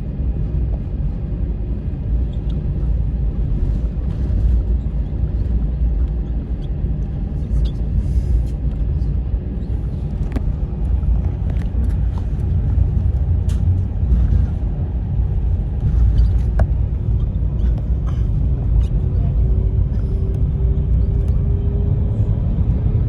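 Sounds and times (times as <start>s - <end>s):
airliner cabin low rumble: 0.0s - 23.0s.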